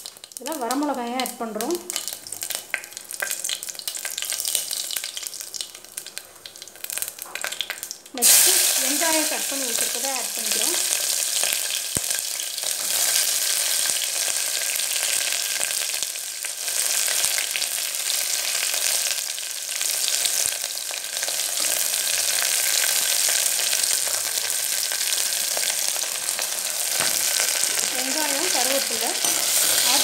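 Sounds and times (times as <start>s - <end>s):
shallots sizzling in hot oil: 0.0s - 30.0s.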